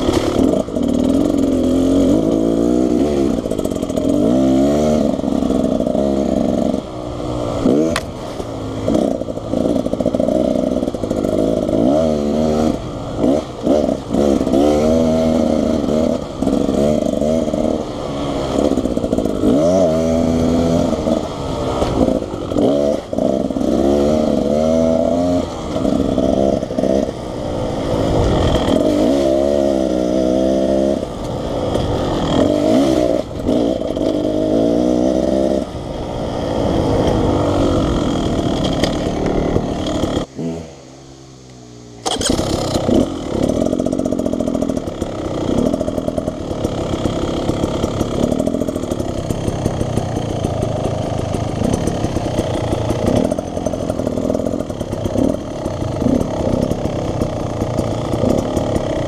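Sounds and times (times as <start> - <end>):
dirt bike engine revving: 0.0 - 41.0, 42.0 - 59.0.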